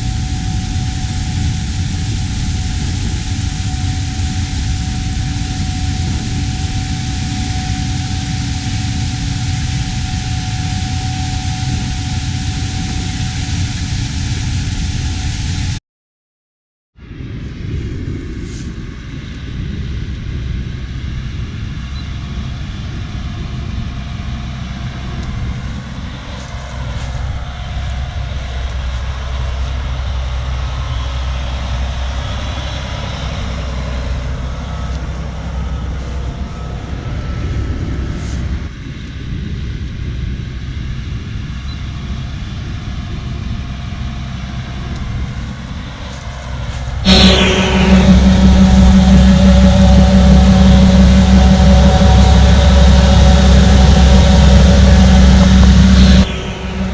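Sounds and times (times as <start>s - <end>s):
heavy machinery engine drone: 0.0s - 15.8s, 18.0s - 56.9s.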